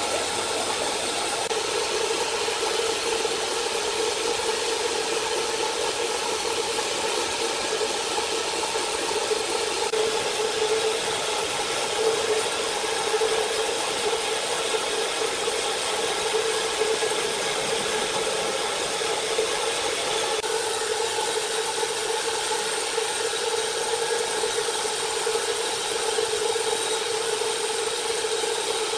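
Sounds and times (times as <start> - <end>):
sawmill machinery humming: 0.0 - 28.9.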